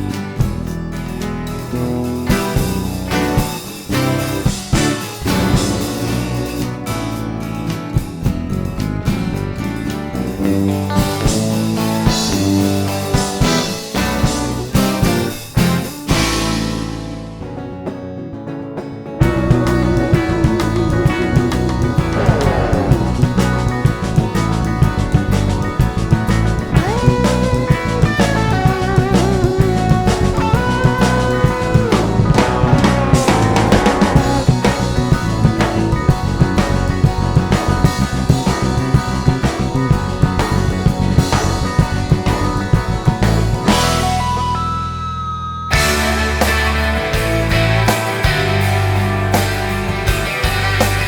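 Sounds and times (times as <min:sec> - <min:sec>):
rock music with guitar and drums: 0:00.0 - 0:45.0, 0:45.6 - 0:51.0.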